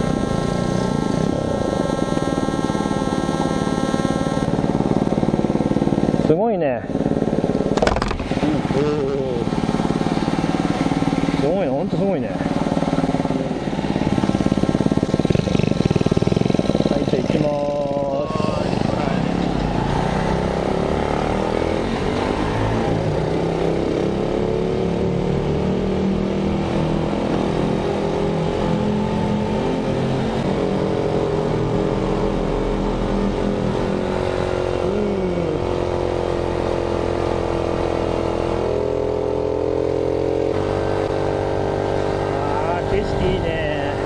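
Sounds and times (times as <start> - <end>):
small motorcycle engine running: 0.0 - 44.0.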